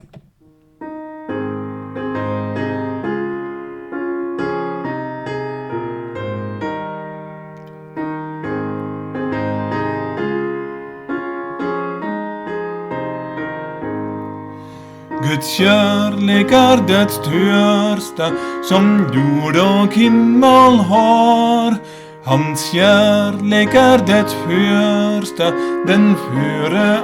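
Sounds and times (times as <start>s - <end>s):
piano playing chords: 0.0s - 27.0s.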